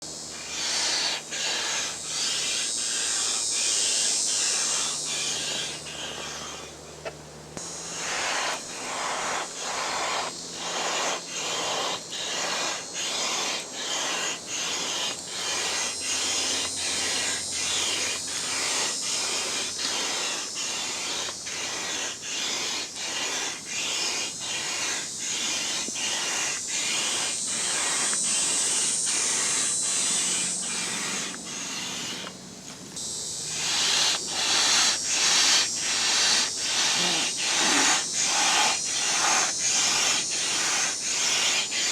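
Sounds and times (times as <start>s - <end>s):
air pump hissing: 0.0s - 41.9s.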